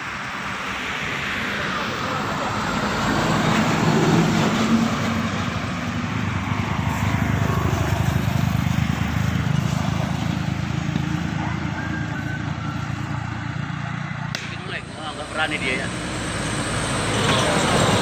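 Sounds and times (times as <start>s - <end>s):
diesel trucks passing: 0.0s - 18.0s.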